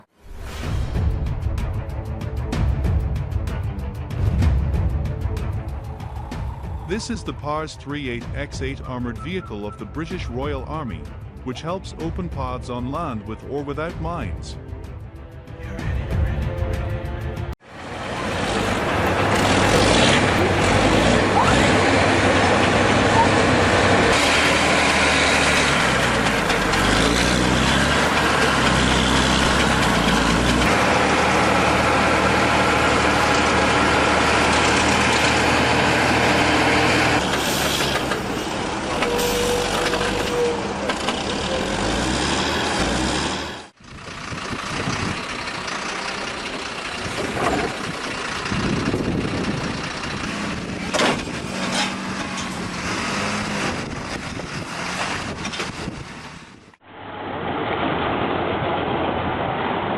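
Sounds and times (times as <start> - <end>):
heavy vehicle engine running: 1.5 - 10.2, 14.7 - 59.9.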